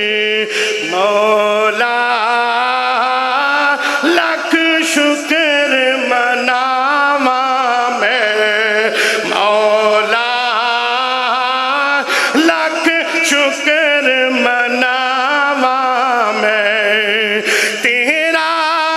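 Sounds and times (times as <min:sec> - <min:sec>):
man singing with trills: 0:00.0 - 0:18.9.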